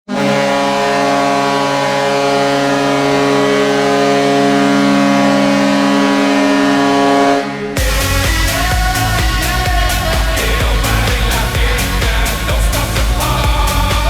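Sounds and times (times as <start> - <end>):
goal horn blast: 0.1 - 14.0.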